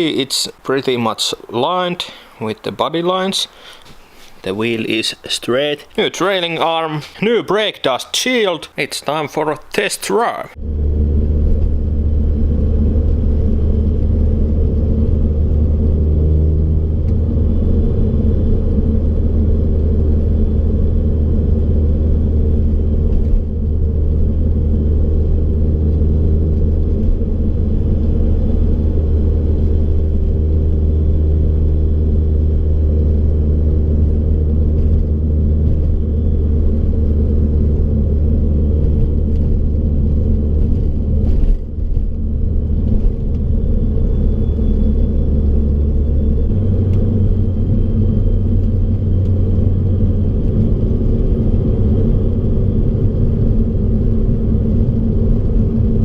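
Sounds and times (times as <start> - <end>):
road rumble: 0.0 - 56.0
car engine hum: 10.5 - 56.0.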